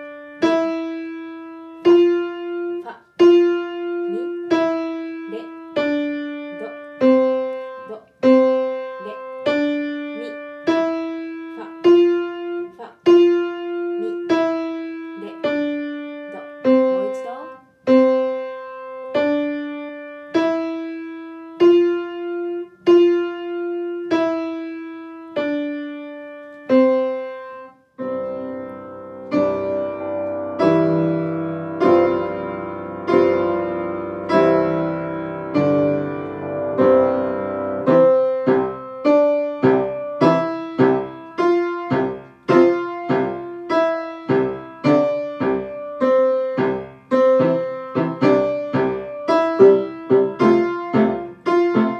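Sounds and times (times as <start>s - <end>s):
piano music with chords: 0.0s - 51.9s
single piano notes: 0.0s - 51.9s.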